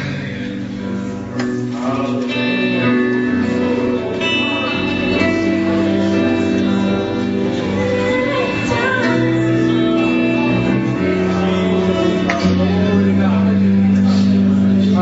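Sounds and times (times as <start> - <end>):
guitar playing sustained chords: 0.0 - 15.0
voices singing: 0.0 - 15.0.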